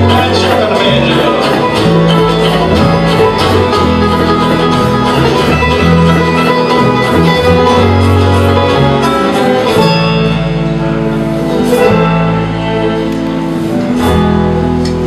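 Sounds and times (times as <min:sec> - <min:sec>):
fiddle: 0:00.0 - 0:14.0
banjo picking: 0:00.0 - 0:15.0
upright bass: 0:00.0 - 0:15.0.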